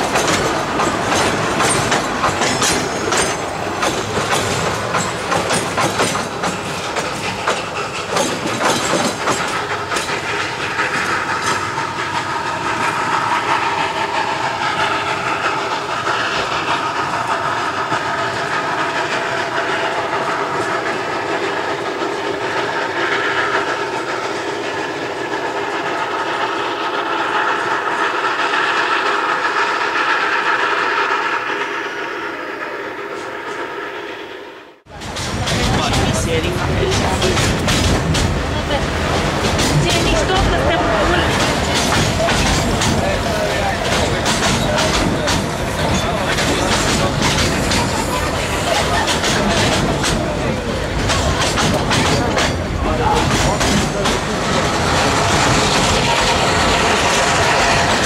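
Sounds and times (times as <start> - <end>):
train wheels clicking over rail joints: 0.0 - 31.8, 34.9 - 58.0.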